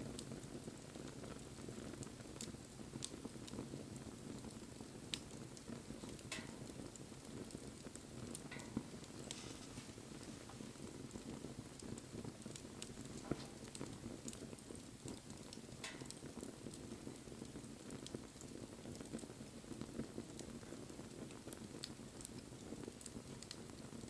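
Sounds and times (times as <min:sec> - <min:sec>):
low rush of bonfire flame: 0:00.0 - 0:24.0
wood crackling and popping: 0:00.0 - 0:24.0.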